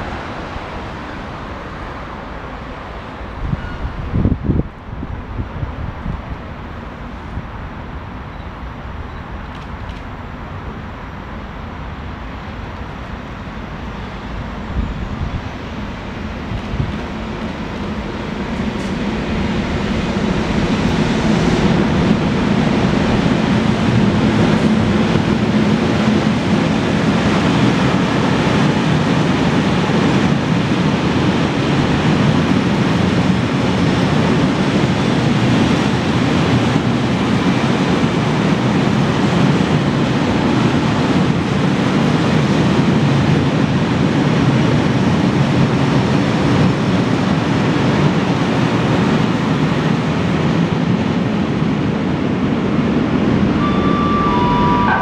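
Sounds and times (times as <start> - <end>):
freight train passing: 0.0 - 55.0
steel wheels rumbling on rails: 0.0 - 55.0.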